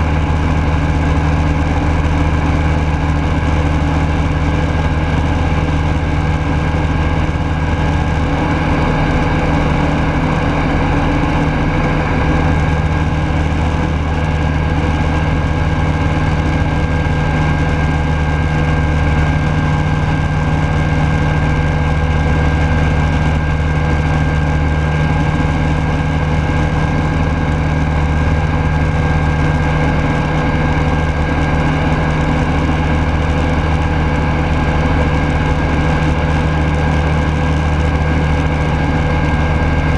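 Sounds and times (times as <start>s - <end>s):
light aircraft engine in flight: 0.0s - 39.9s.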